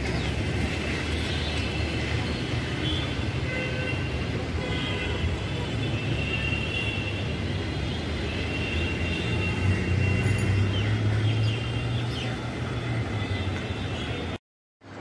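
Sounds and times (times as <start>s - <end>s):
road traffic engines: 0.0s - 15.0s.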